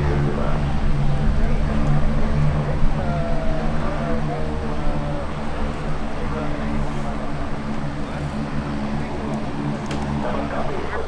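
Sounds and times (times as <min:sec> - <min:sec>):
turboprop engines droning: 0:00.0 - 0:11.0.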